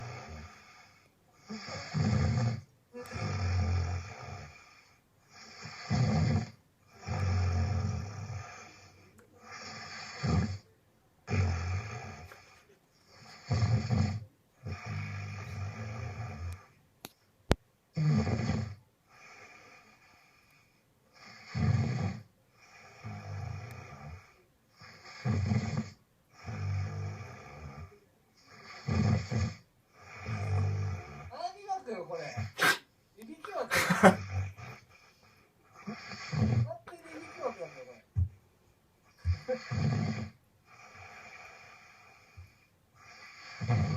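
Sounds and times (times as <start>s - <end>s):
person snoring: 0.0s - 10.7s, 11.3s - 16.7s, 18.0s - 32.8s, 33.5s - 38.3s, 39.1s - 43.9s.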